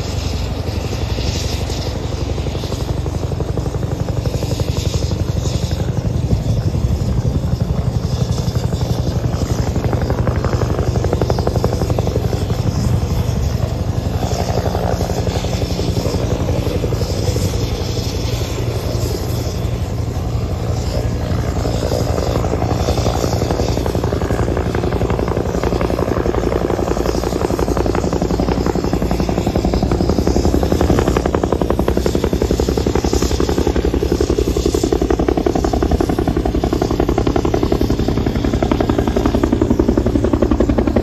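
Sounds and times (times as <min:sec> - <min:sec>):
helicopter rotor beating: 0:00.0 - 0:41.0
helicopter turbine engine: 0:00.0 - 0:41.0.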